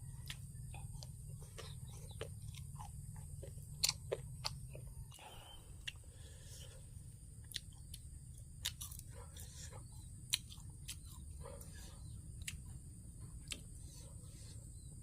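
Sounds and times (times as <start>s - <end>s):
person chewing crunchy food: 0.0s - 14.9s
low steady hum: 0.0s - 15.0s.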